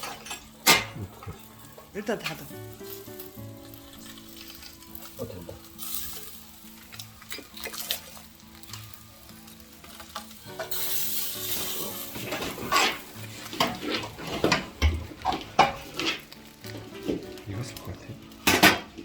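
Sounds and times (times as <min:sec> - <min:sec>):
chicken sizzling over fire: 0:00.0 - 0:19.0
soft background music: 0:00.0 - 0:19.0.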